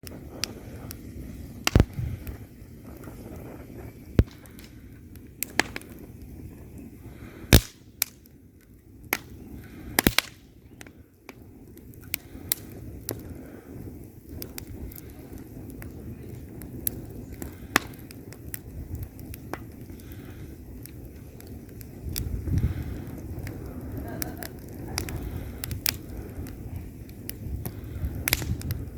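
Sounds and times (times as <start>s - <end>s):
logs popping and crackling: 0.0s - 28.9s
rumble of fire flames: 0.0s - 28.9s.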